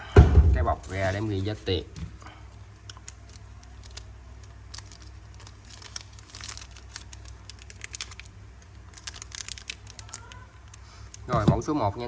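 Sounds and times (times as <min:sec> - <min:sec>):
plastic bag crinkling: 0:00.6 - 0:11.3.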